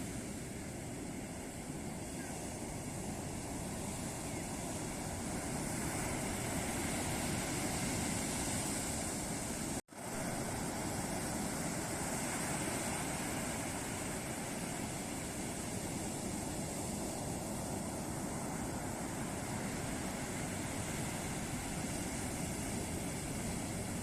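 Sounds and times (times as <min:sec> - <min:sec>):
waves breaking on a beach: 0:00.0 - 0:24.0.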